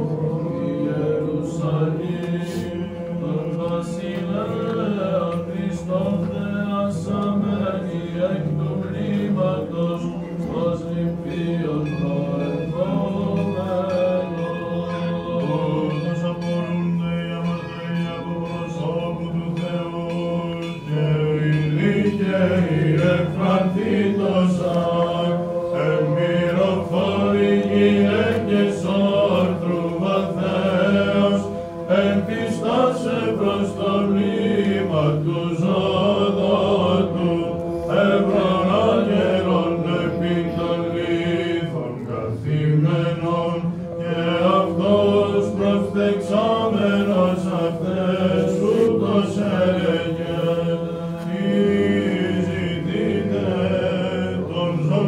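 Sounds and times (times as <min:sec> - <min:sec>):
voices chanting a hymn: 0:00.0 - 0:55.0.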